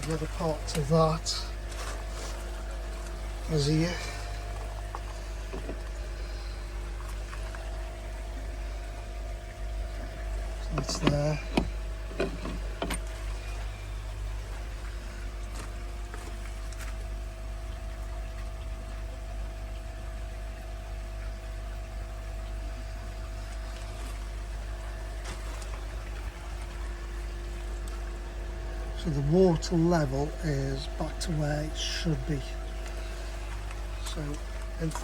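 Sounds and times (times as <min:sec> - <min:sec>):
water pump humming: 0:00.0 - 0:35.0
water running: 0:00.0 - 0:35.0.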